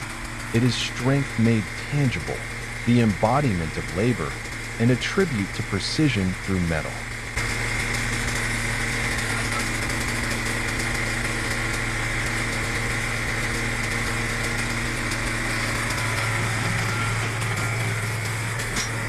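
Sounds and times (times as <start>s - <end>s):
log splitter engine idling: 0.0s - 19.0s.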